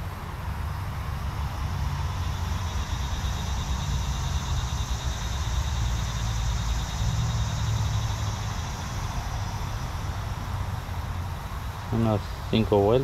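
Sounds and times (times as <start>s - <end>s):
faint pulsing high buzz: 0.0s - 13.0s
low outdoor rumble: 0.0s - 13.0s.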